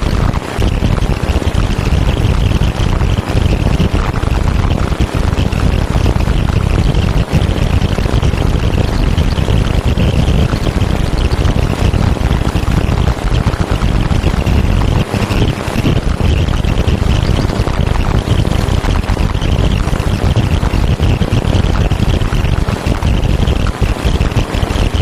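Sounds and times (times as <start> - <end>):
electronic rumbling and hissing noise: 0.0 - 25.0.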